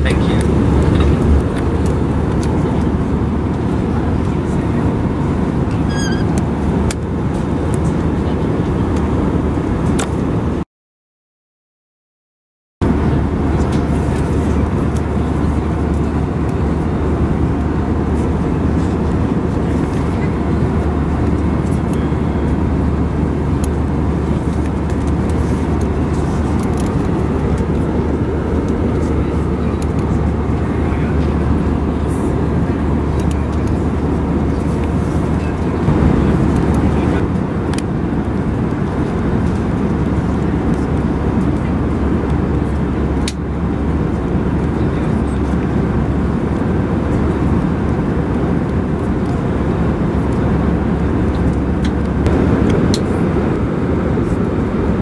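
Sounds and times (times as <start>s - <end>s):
airplane cabin rumble: 0.0s - 10.6s, 12.8s - 55.0s.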